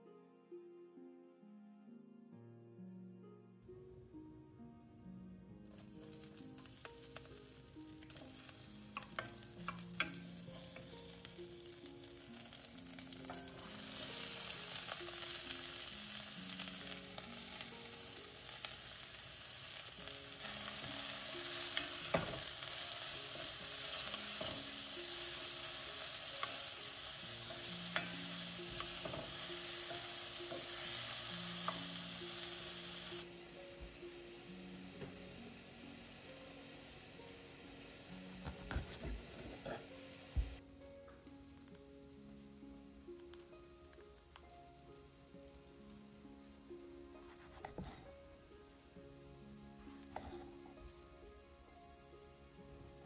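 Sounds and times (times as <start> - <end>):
vegetables sizzling in hot oil: 5.6 - 40.6, 41.2 - 53.0.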